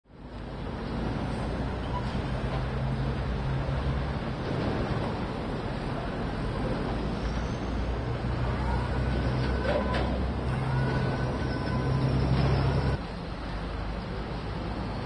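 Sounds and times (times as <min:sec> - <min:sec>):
road noise: 0:00.0 - 0:15.0
truck engine drone: 0:00.1 - 0:15.0.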